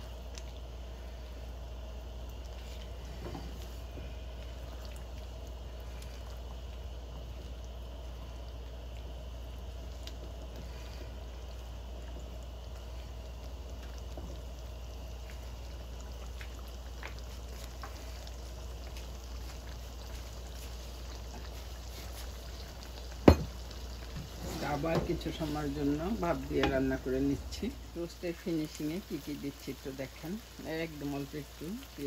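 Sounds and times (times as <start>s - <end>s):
gravy bubbling and sizzling: 0.0s - 32.0s.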